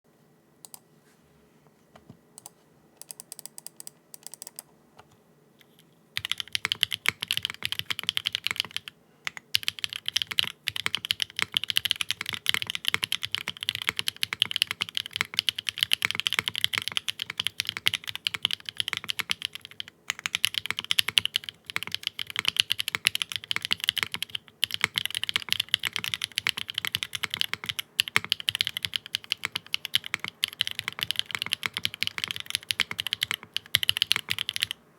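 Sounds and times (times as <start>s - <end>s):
mechanical keyboard typing: 2.4s - 4.7s, 6.2s - 34.8s.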